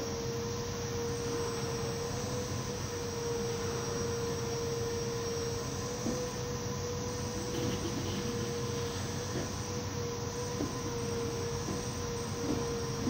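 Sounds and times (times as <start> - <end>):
high-pitched machine hum: 0.0 - 13.0.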